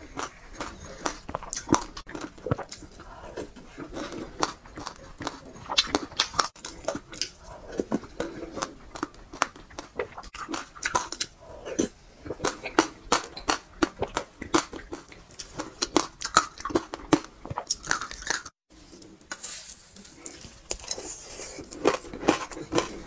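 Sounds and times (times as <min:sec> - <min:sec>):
mouth sipping and chewing: 0:00.0 - 0:18.5.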